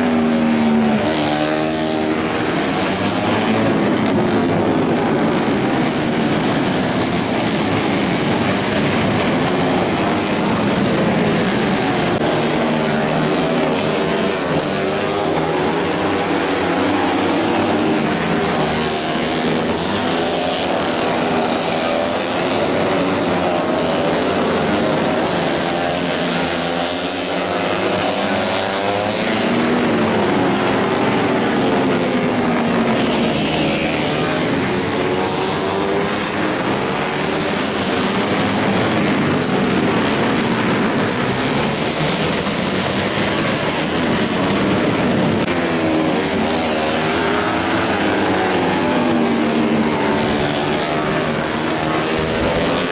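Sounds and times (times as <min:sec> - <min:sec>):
racing motorcycle engines revving: 0:00.0 - 0:52.9.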